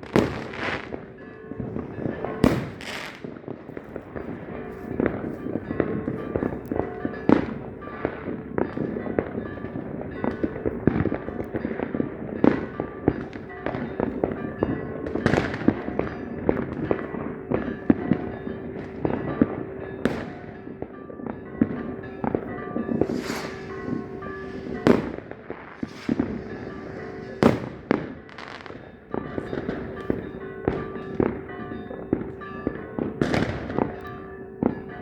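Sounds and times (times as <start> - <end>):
loud fireworks booms: 0.0 - 21.0, 21.6 - 34.0
fireworks bangs and crackles: 0.0 - 35.0.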